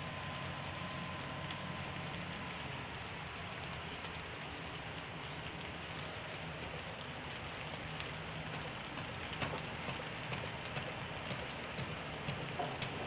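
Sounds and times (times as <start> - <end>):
low steady hum: 0.0 - 13.0
rain falling on foliage: 0.0 - 13.0.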